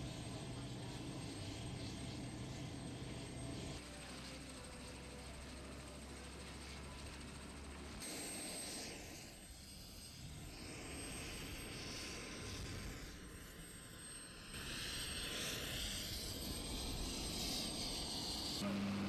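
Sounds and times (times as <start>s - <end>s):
helicopter engines and rotor: 0.0s - 19.0s.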